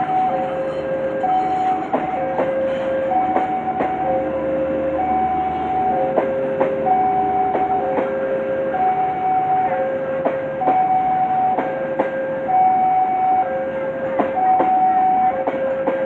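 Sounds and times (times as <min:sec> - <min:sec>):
train wheels clacking on rails: 0:00.0 - 0:12.6, 0:13.2 - 0:16.0
level-crossing two-tone alarm: 0:00.0 - 0:16.0.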